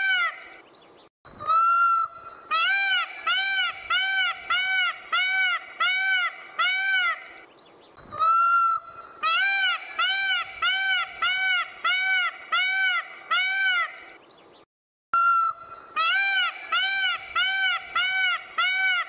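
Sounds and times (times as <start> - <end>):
peacock calling: 0.0 - 0.6, 1.3 - 14.2, 15.2 - 19.0.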